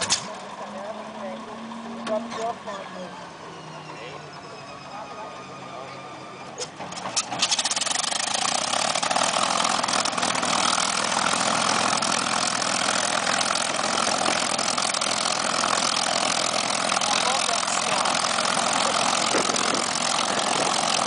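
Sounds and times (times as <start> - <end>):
aircraft engine idling: 0.0 - 21.0.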